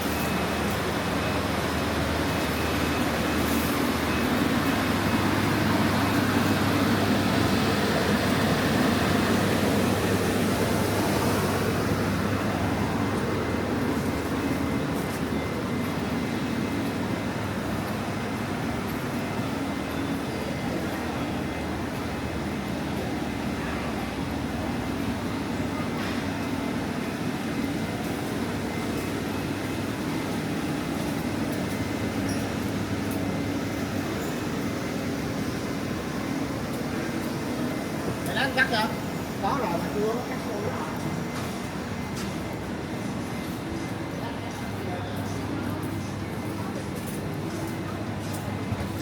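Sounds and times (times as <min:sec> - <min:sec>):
supermarket indoor rumble and hum: 0:00.0 - 0:49.0.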